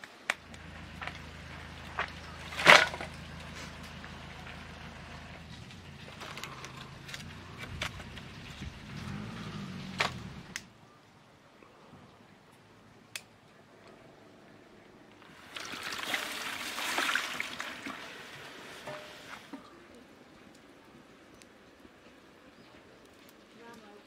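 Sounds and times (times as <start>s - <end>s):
low steady hum: 0.1s - 22.6s.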